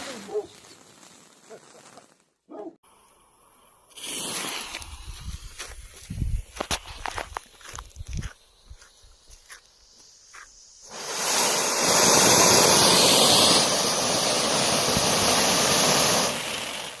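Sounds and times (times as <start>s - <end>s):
firework fountain hissing: 2.9s - 17.0s.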